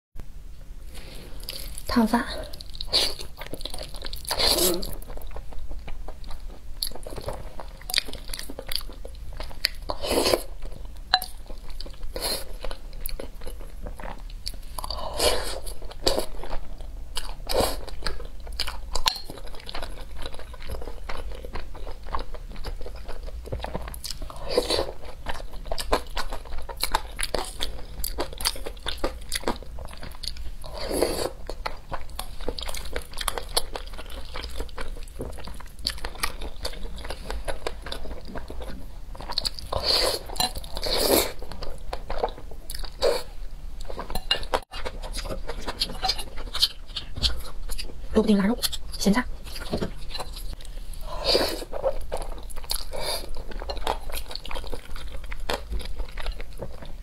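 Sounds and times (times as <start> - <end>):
wet chewing and smacking: 2.6 - 15.0, 15.6 - 48.0, 51.6 - 57.0.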